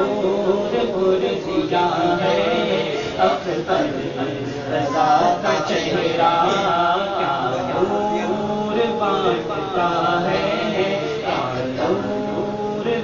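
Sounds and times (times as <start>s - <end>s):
man singing devotional chant: 0.0s - 13.0s.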